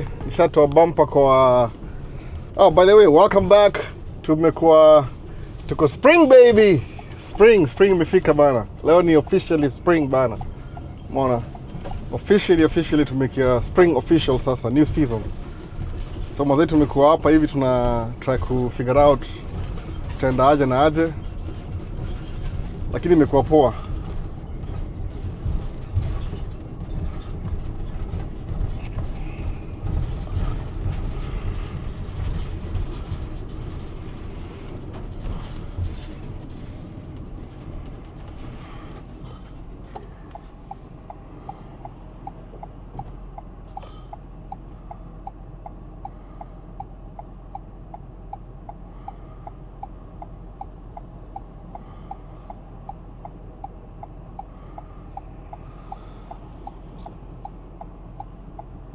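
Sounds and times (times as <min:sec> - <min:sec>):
turn signal ticking: 0:00.0 - 0:58.9
vehicle rumble from inside: 0:00.0 - 0:58.9.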